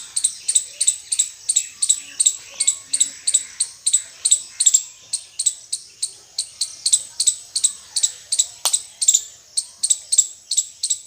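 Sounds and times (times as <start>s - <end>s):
squirrel chirping: 0.0s - 11.0s.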